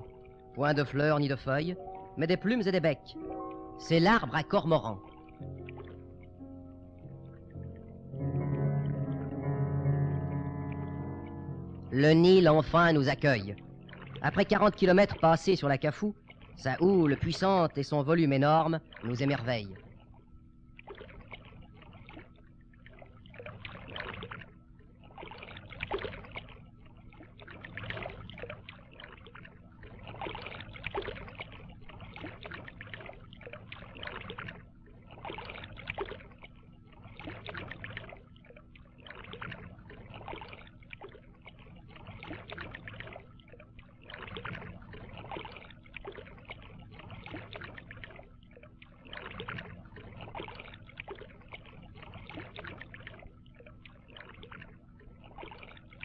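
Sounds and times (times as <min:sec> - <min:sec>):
canoe paddles splashing: 0:00.0 - 0:56.0.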